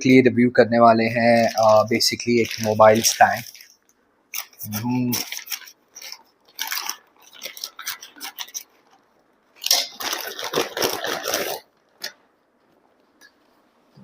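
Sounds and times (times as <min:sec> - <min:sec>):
packaging rustling and tearing: 0:01.0 - 0:13.4.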